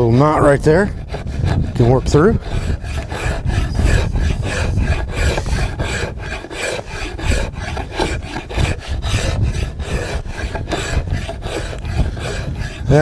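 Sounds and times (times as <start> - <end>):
draw knife shaving wood: 0.9 - 13.0.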